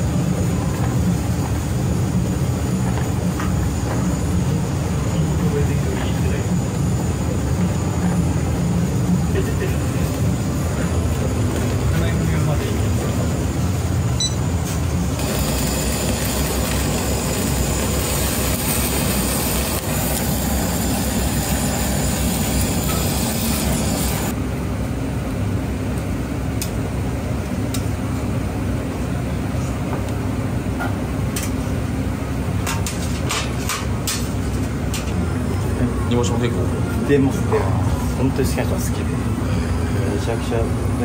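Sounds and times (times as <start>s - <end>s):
low kitchen rumble: 0.0s - 41.0s.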